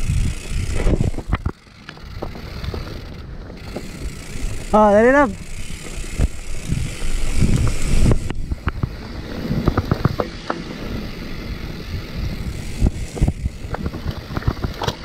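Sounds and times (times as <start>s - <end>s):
wind on microphone: 0.0s - 1.6s, 2.2s - 15.0s
bike knocks and clicks: 0.0s - 15.0s
bike tyres rumbling over dirt: 0.0s - 15.0s.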